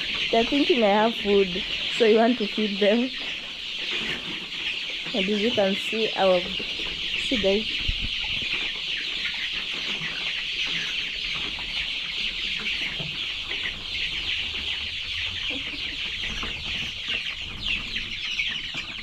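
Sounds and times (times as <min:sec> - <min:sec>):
chickens cheeping and clucking: 0:00.0 - 0:19.0.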